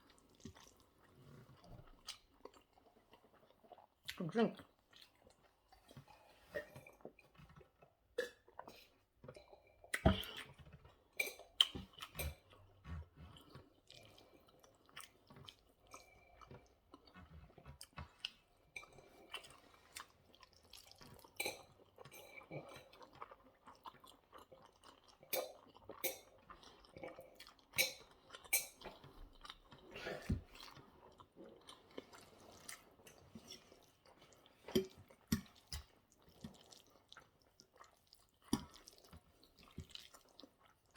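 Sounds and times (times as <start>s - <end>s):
person chewing with mouth smacks: 0.0s - 40.9s.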